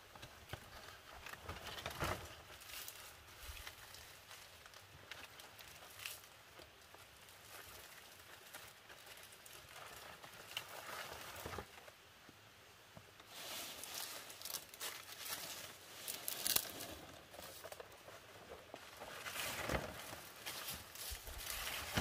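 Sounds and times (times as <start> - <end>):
dry leaves rustling: 0.5 - 11.9, 13.2 - 22.0.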